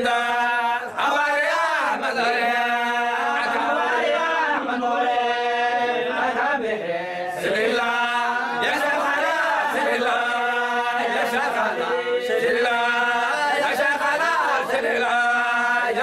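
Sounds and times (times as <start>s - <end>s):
men chanting together: 0.0s - 16.0s.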